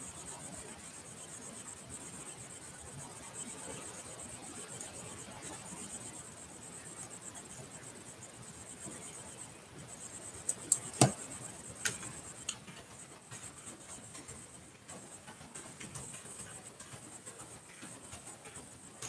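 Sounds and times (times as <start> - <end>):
faint high hiss: 0.0 - 19.0.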